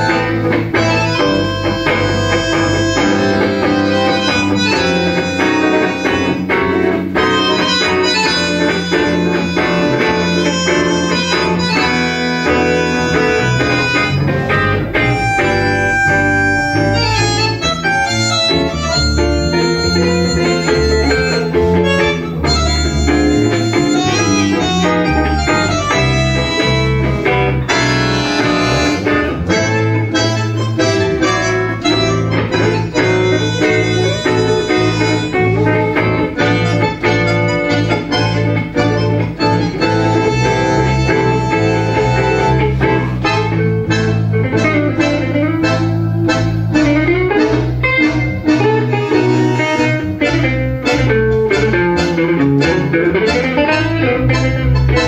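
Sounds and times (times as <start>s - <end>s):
bandoneon melody: 0.0s - 55.0s
bass: 0.0s - 55.0s
guitar: 0.0s - 55.0s.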